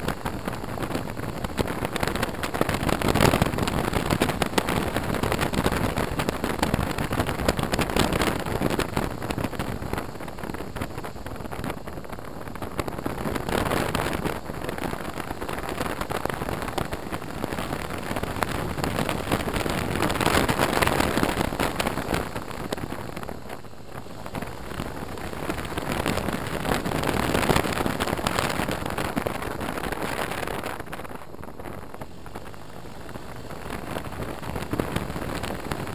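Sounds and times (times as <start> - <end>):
motorcycle engine running: 0.0 - 35.9
wind rushing: 0.0 - 35.9.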